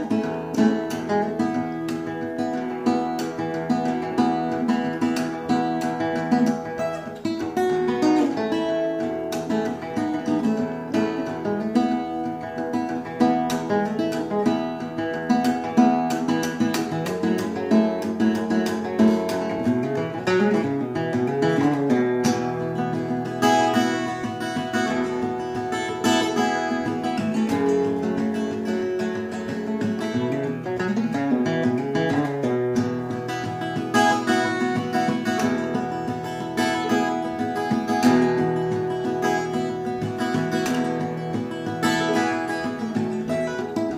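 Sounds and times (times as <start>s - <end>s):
fingerpicked acoustic guitar: 0.0s - 43.9s.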